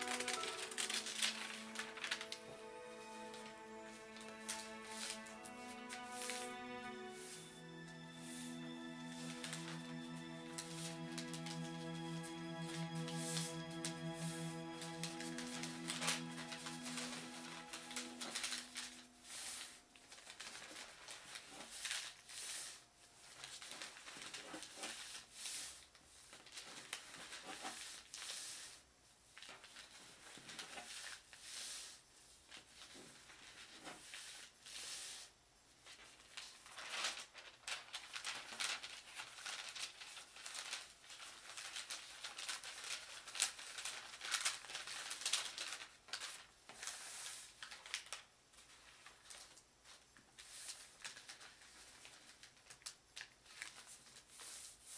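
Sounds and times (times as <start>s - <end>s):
wrapping paper rustling: 0.0s - 54.9s.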